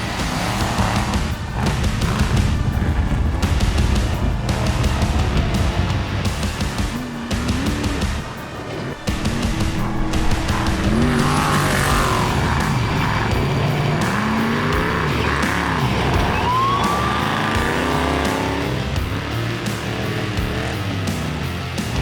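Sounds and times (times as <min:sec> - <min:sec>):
rock music: 0:00.0 - 0:22.0
truck engine revving: 0:00.0 - 0:22.0.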